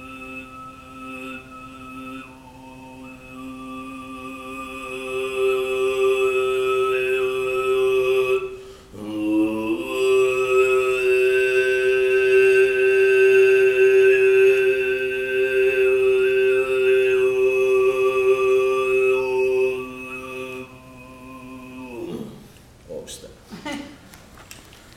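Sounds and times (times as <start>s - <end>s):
man throat singing: 0.0s - 22.6s.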